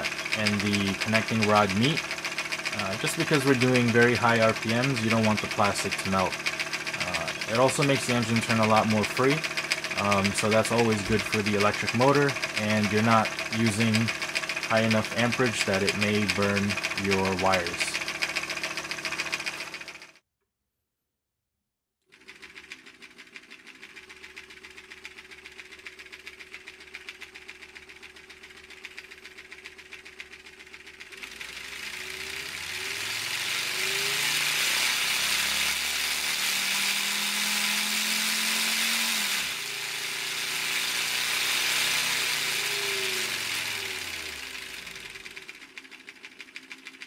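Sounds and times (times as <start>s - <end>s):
model engine pistons clattering: 0.0s - 20.1s, 22.1s - 35.8s, 39.0s - 47.0s.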